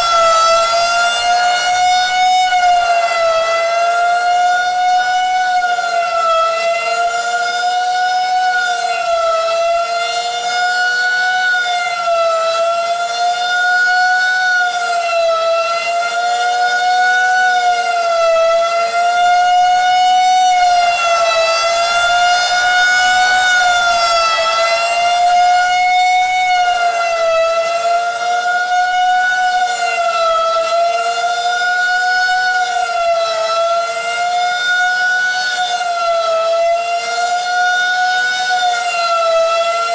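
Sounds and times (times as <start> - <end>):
two-tone warning siren wail: 0.0 - 39.9.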